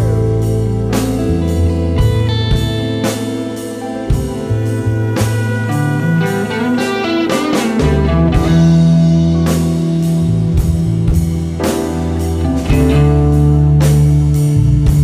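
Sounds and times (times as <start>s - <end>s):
bass notes: 0.0s - 15.0s
electric guitar lead: 0.0s - 15.0s
slow drum beat: 0.0s - 15.0s.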